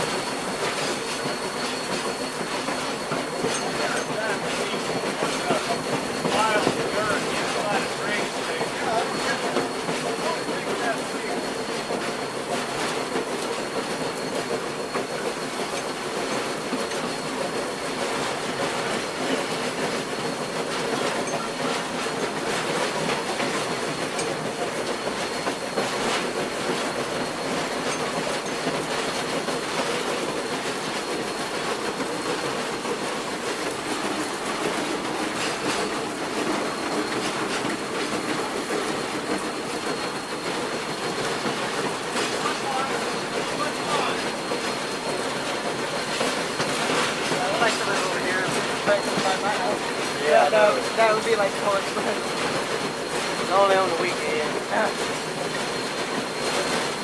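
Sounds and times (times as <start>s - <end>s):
railroad cars rumbling along track: 0.0s - 57.0s
wheels clicking over rail joints: 0.0s - 57.0s.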